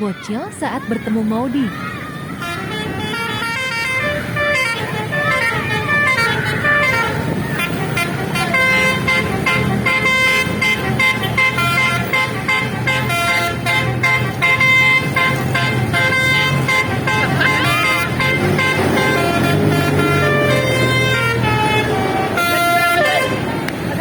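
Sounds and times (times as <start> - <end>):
bus engine running: 0.0 - 24.0
bus musical horn tune: 2.3 - 23.8.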